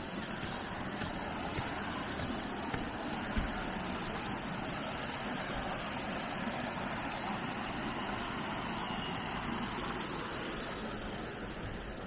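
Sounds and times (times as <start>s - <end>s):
stream rushing over rocks: 0.0s - 11.5s.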